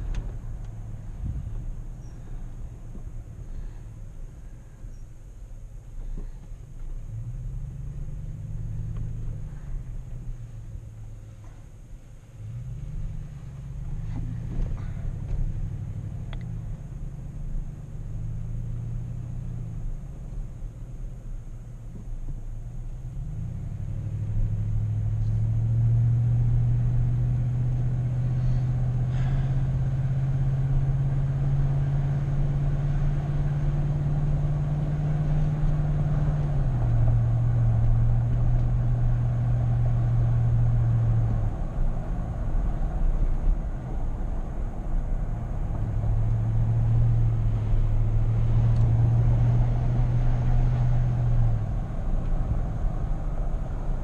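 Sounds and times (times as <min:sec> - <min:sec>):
car engine: 0:00.0 - 0:54.0
road noise: 0:00.0 - 0:54.0.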